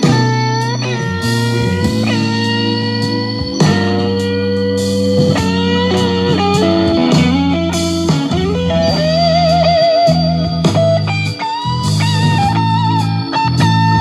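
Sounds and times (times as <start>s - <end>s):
blues guitar music: 0.0s - 14.0s
steady bass line: 0.0s - 14.0s.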